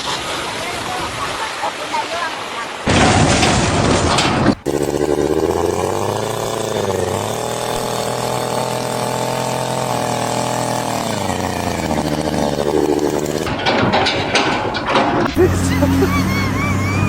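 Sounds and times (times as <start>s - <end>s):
engine revving: 2.9s - 17.0s.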